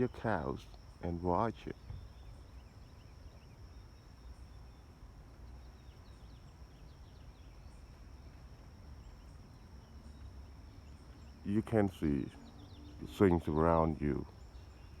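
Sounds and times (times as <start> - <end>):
faint bird chirps: 0.0 - 15.0
high insect trill: 0.0 - 15.0.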